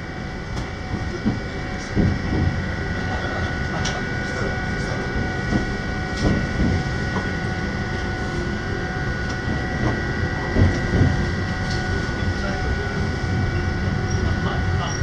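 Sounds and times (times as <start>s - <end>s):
high whine: 0.0s - 15.0s
train wheels rumbling on rail: 0.0s - 15.0s.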